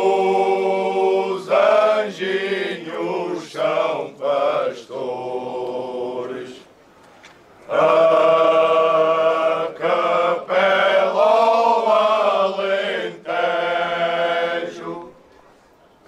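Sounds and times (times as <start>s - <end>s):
choir of low voices singing: 0.0s - 6.7s, 7.7s - 15.3s.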